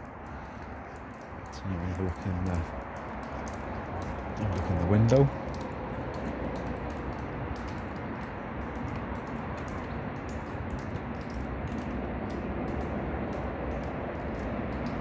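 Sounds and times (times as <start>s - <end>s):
faint light ticks: 0.0s - 15.0s
steady background noise: 0.0s - 15.0s.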